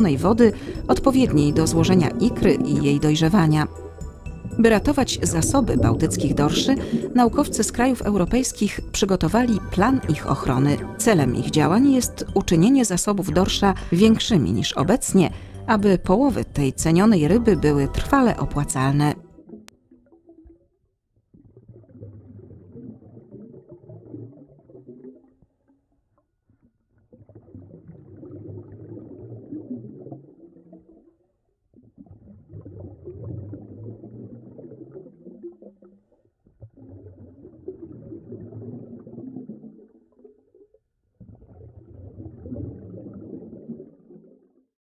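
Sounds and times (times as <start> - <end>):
low rumbling gurgling water: 0.0 - 44.7.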